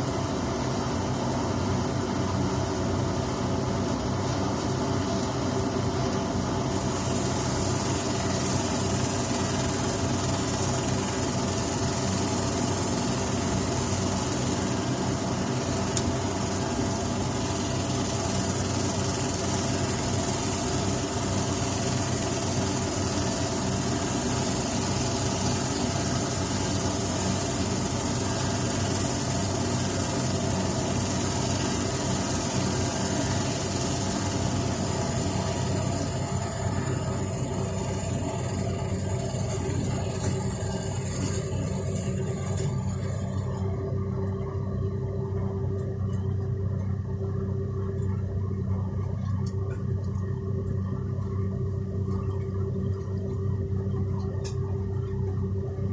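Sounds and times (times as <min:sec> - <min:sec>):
machine motors humming: 0:04.0 - 0:55.9.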